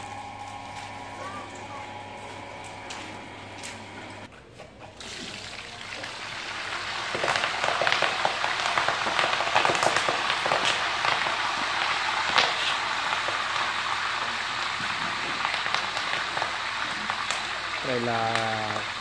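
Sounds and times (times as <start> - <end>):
leaves frying in hot oil: 0.0 - 3.9, 5.0 - 19.0.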